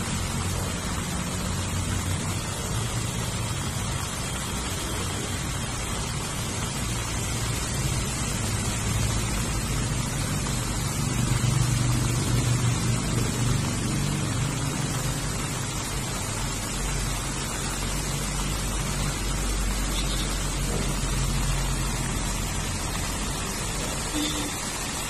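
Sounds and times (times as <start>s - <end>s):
heavy rain on grass and plants: 0.0s - 25.0s.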